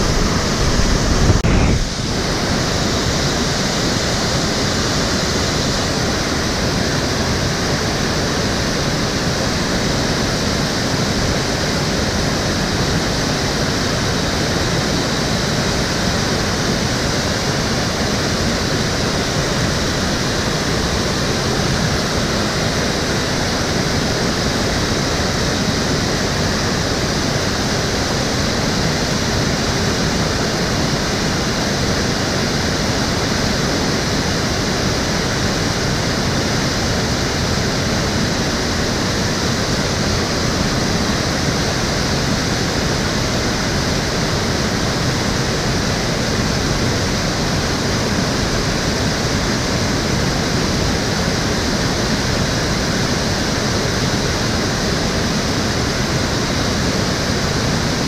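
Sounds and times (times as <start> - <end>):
stream water rushing and splashing: 0.0 - 58.0.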